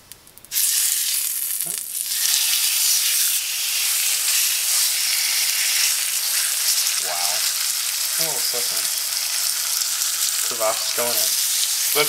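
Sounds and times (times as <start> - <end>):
fish fillet sizzling in hot oil: 0.4 - 12.0.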